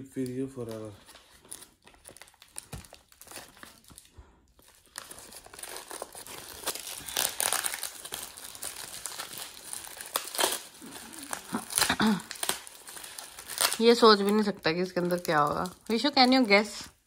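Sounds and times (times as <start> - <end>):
paper tearing and crinkling: 0.2 - 16.8.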